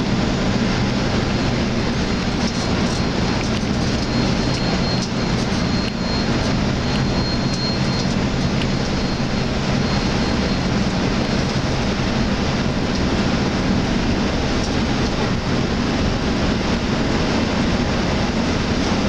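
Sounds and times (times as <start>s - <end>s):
bus engine hum: 0.0s - 19.0s.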